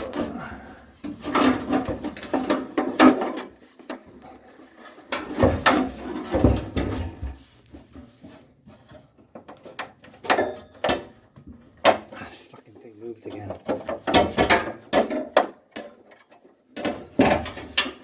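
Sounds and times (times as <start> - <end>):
clunks and scraping of car part: 0.0 - 12.4, 13.3 - 18.0.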